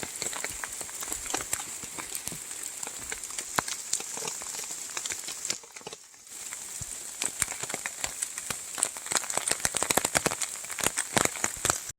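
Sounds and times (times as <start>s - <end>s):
rain falling: 0.0s - 11.9s.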